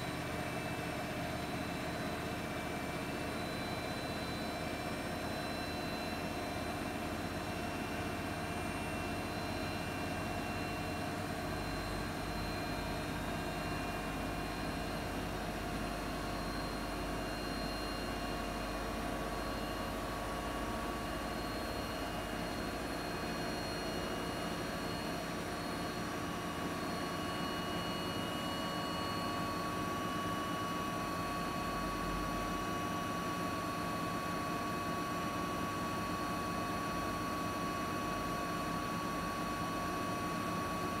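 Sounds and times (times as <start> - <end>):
washing machine spin cycle hum: 0.0 - 41.0.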